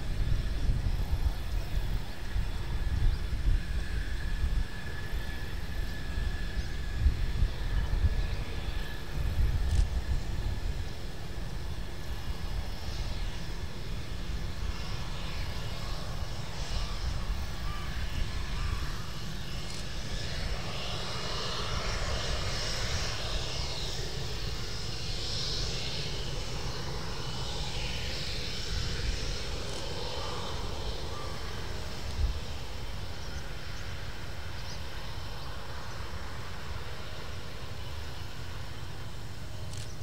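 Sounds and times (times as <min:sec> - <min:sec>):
jet engines taxiing: 0:00.0 - 0:40.0.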